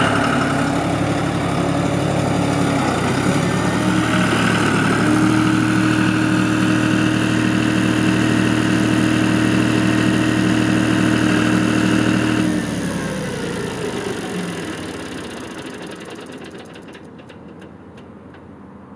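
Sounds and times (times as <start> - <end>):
falling engine whine: 0.0 - 17.4
tractor diesel engine running: 0.0 - 17.8.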